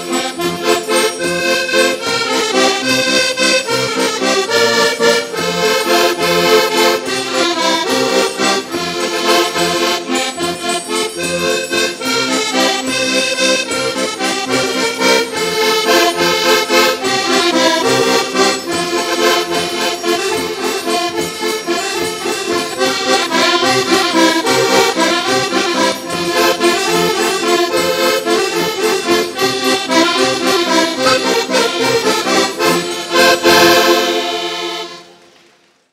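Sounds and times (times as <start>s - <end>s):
button accordions playing together: 0.0s - 35.2s.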